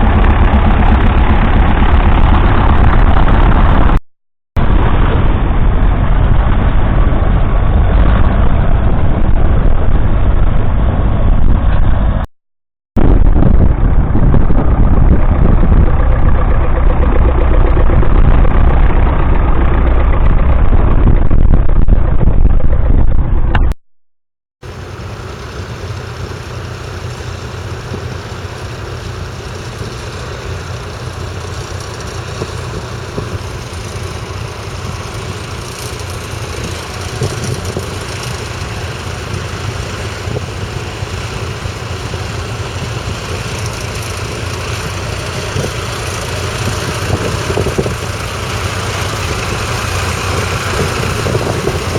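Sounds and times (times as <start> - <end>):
tractor engines running: 0.0 - 4.0, 4.6 - 12.3, 13.0 - 23.6, 24.6 - 51.9.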